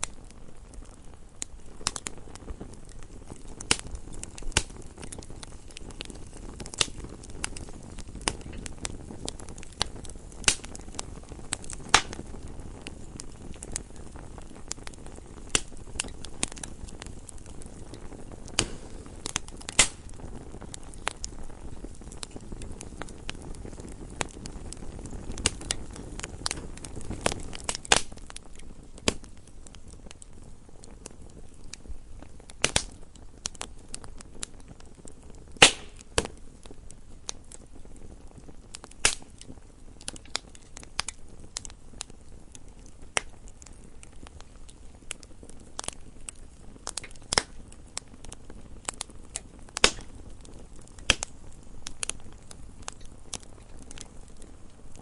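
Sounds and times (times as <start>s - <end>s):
burning logs crackling: 0.0s - 55.0s
flames rumbling: 0.0s - 55.0s.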